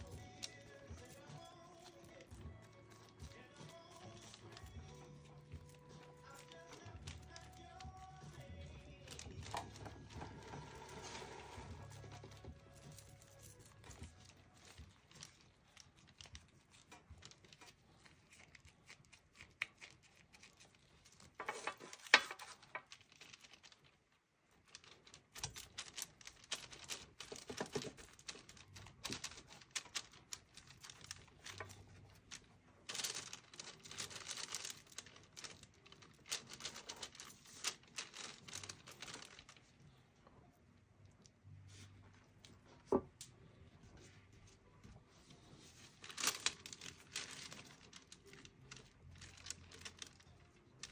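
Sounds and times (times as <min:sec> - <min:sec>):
sponge crinkling and tapping: 0:00.0 - 0:39.8, 0:41.2 - 0:50.9.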